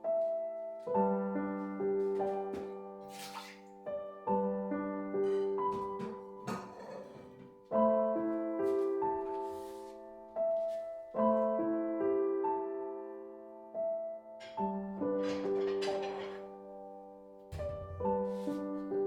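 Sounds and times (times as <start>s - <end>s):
soft solo piano chords: 0.0s - 19.0s.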